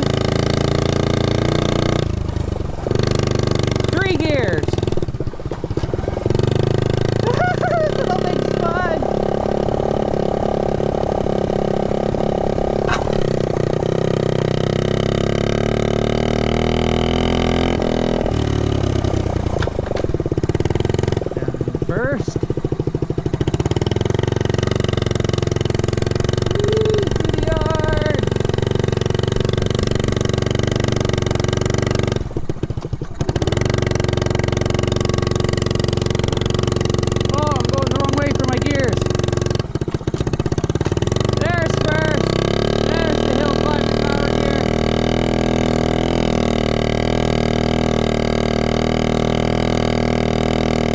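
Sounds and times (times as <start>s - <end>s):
small motorbike engine running: 0.0s - 50.9s.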